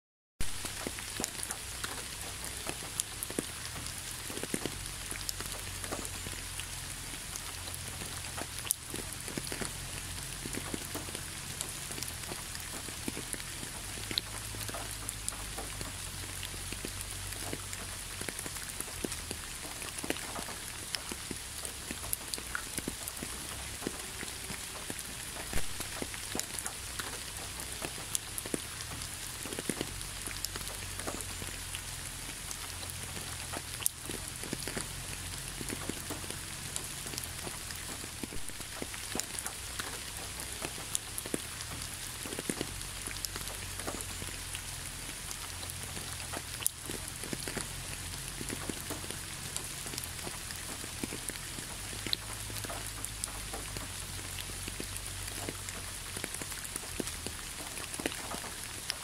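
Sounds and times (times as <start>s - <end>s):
steady rain: 0.4s - 59.0s.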